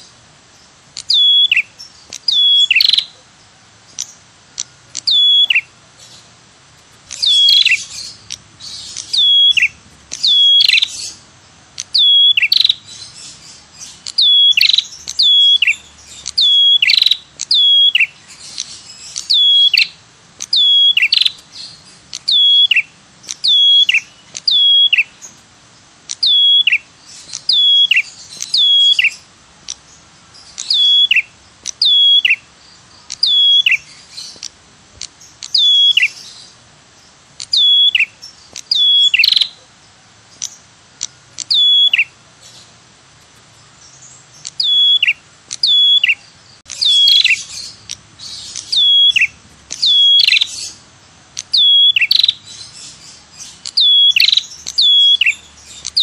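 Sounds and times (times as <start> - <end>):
bird calling downward notes: 1.0 - 3.3, 4.0 - 5.8, 7.1 - 25.3, 26.1 - 29.9, 30.5 - 36.5, 37.4 - 39.7, 41.1 - 42.2, 44.4 - 56.0.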